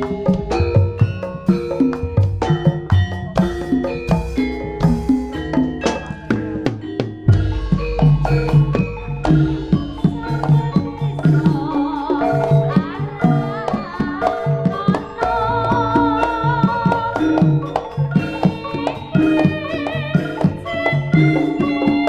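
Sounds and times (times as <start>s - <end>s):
hand drum strokes: 0.0s - 22.0s
struck metal percussion: 0.0s - 22.0s
wavering melodic line: 0.0s - 22.0s.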